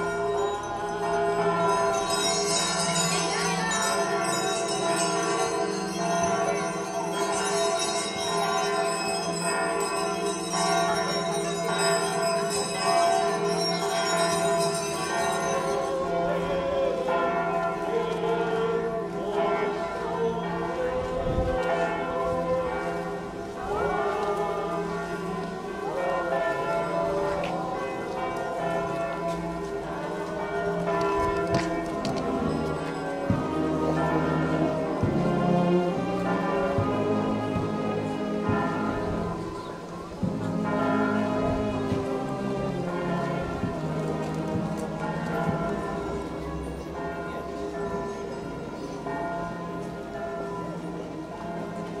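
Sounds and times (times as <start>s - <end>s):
church bells ringing: 0.0s - 52.0s.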